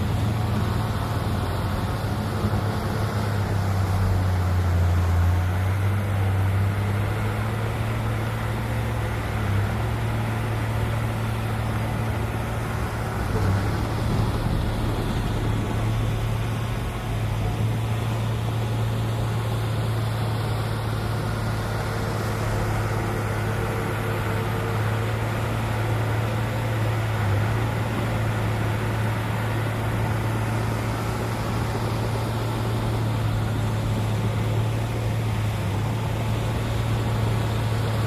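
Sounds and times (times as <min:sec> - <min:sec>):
heavy machinery diesel engine: 0:00.0 - 0:38.0.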